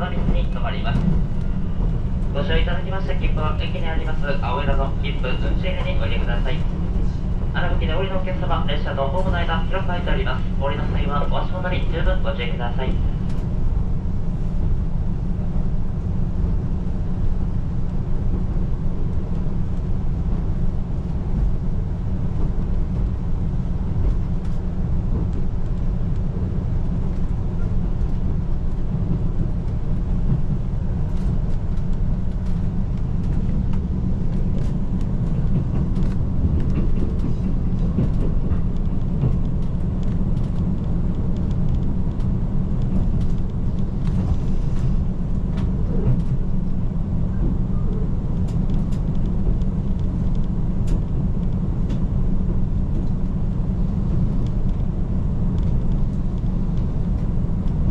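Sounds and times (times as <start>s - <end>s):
railcar engine and wheels rumble: 0.0s - 57.9s.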